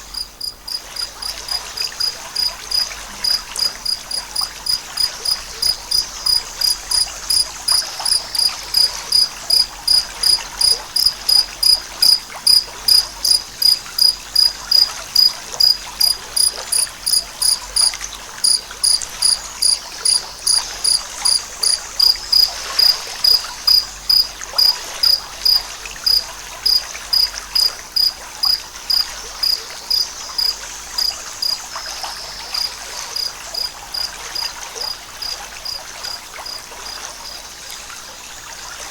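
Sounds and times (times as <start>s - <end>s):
cricket chirping: 0.0s - 37.4s
stream running water: 0.0s - 38.9s.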